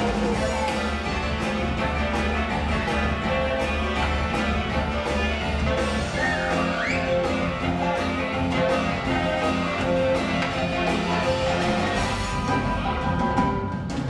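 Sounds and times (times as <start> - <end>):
instrumental rock band playing: 0.0 - 14.0.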